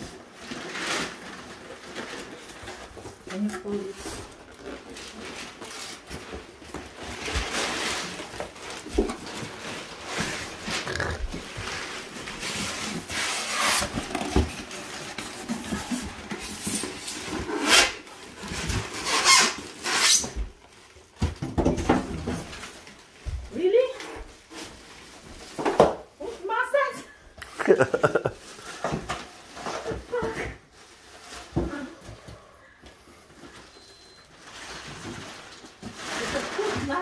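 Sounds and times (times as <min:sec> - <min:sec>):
plastic wrap crinkling: 0:00.0 - 0:21.3, 0:27.5 - 0:32.0, 0:33.2 - 0:37.0.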